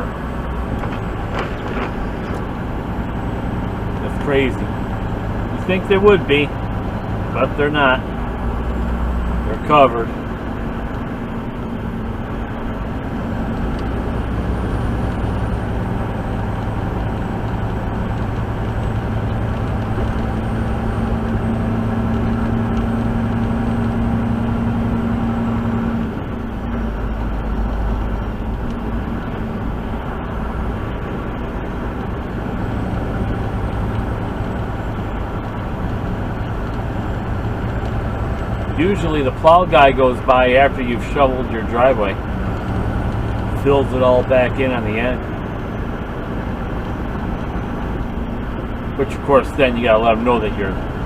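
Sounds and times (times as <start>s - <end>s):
deep rumble: 0.0s - 51.0s
truck engine and road drone: 0.0s - 51.0s.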